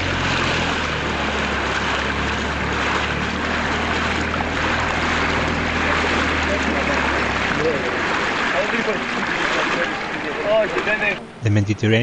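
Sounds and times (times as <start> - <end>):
water rushing past hull: 0.0 - 11.4
boat engine humming: 0.0 - 12.0.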